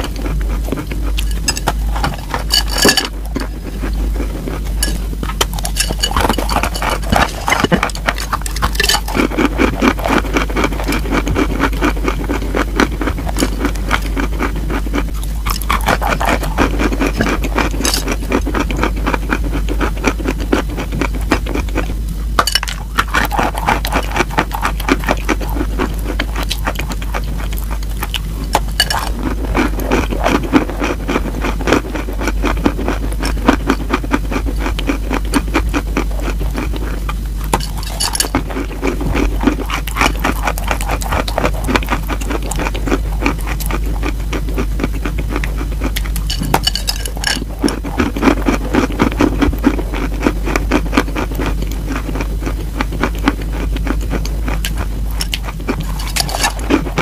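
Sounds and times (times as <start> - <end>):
chalk being bitten and chewed: 0.0 - 22.0, 22.6 - 57.0.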